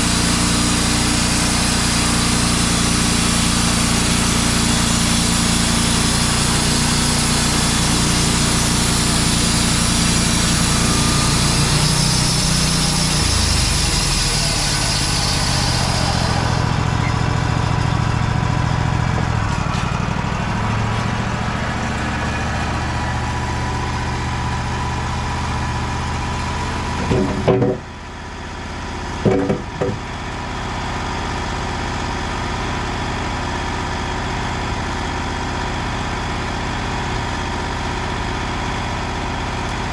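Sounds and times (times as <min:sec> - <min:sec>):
band sawmill engine running: 0:00.0 - 0:39.9.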